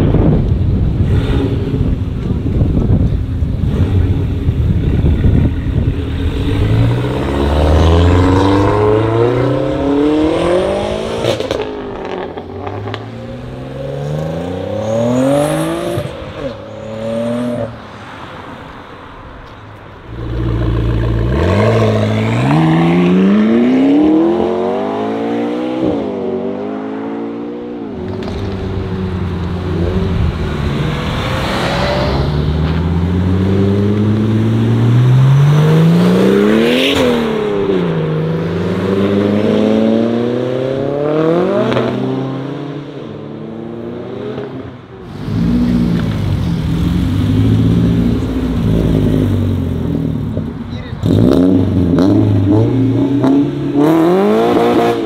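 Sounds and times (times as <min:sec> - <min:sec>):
cars accelerating and revving: 0:00.0 - 0:55.0.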